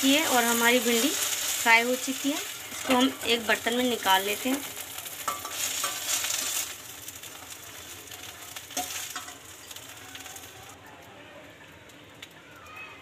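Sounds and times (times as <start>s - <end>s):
okra sizzling in oil: 0.0s - 13.0s.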